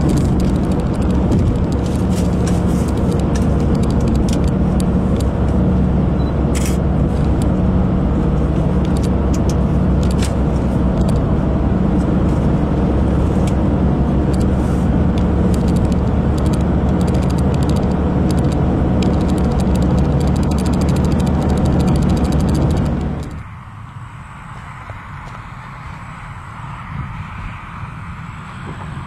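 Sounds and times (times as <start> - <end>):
car road noise from inside: 0.0 - 29.0.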